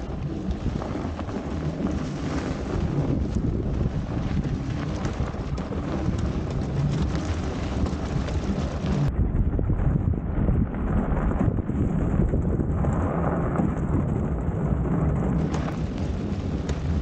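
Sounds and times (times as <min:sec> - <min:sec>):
bike tyres rolling over snow: 0:00.0 - 0:17.0
wind rumble: 0:00.0 - 0:17.0.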